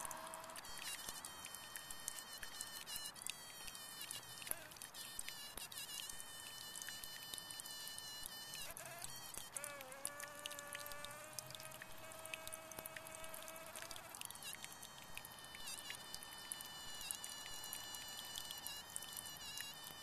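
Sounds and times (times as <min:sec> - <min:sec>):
bumblebee buzzing whine: 0:00.0 - 0:19.6
low steady buzz: 0:00.0 - 0:20.0.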